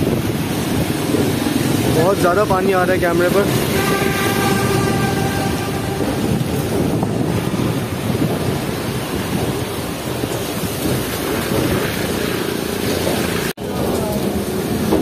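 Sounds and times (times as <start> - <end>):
heavy rain and wind on microphone: 0.0 - 15.0
rain water striking camera: 0.0 - 15.0.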